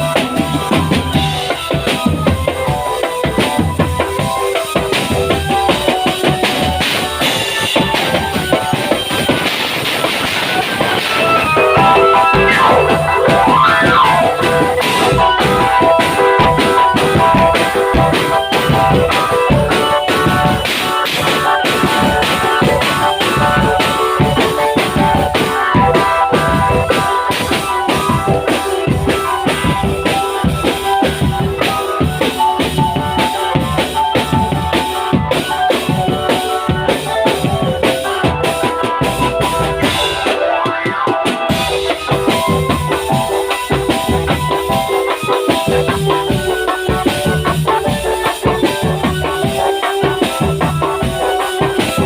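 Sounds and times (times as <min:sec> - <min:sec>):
drum band playing: 0:00.0 - 0:52.0
pitched melody: 0:00.0 - 0:52.0.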